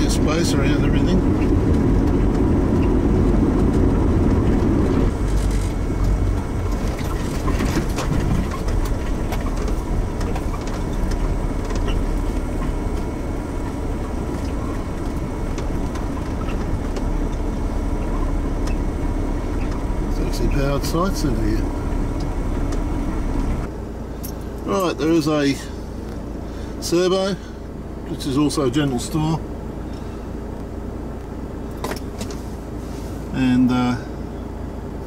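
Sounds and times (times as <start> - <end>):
engine and tyre rumble: 0.0 - 35.0.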